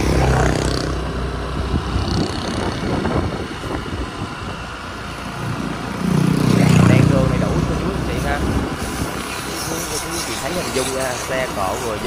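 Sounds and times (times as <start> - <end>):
wind noise on microphone: 0.0 - 11.4
motorbike engine hum: 0.0 - 12.0.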